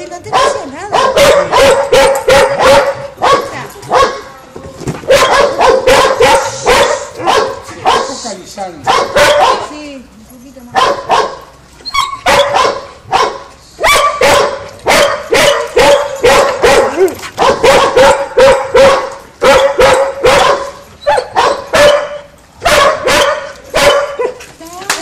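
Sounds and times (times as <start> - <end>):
dog barking: 0.3 - 4.3, 5.1 - 8.2, 8.8 - 9.8, 10.8 - 24.4.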